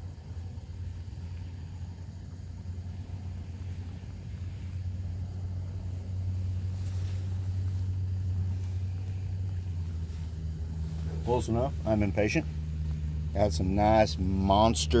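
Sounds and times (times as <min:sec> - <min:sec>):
gas stove burner rumbling: 0:00.0 - 0:15.0.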